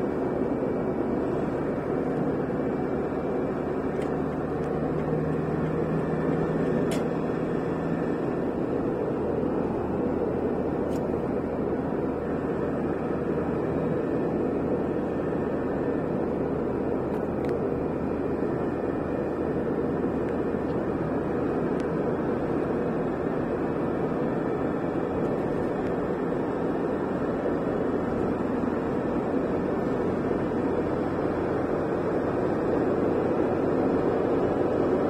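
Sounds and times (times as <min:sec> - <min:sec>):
road and engine noise in car: 0:00.0 - 0:35.0.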